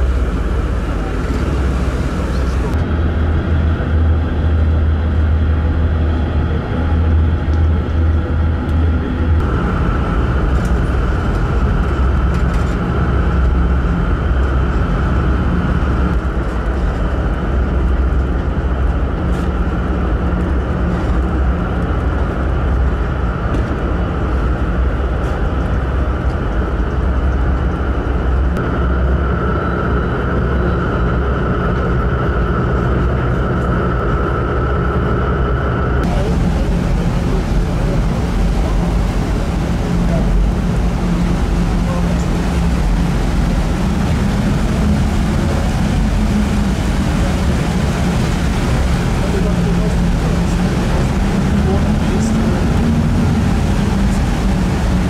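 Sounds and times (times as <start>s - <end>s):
faint steady whine: 0.0s - 55.0s
ship engines droning: 0.0s - 55.0s.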